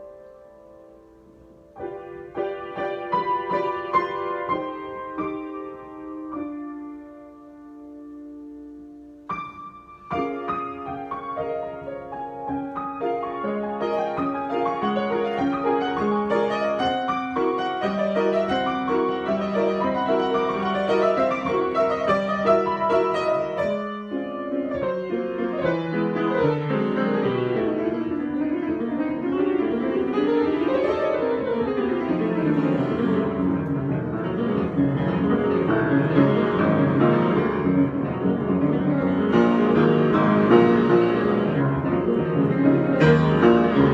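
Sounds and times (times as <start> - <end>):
solo piano improvisation: 0.0 - 43.9.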